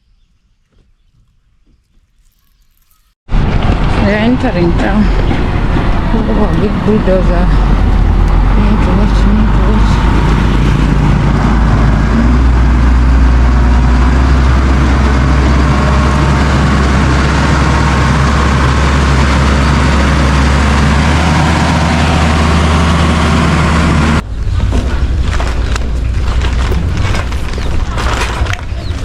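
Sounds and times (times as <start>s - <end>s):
bulldozer diesel engine droning: 3.3s - 29.0s.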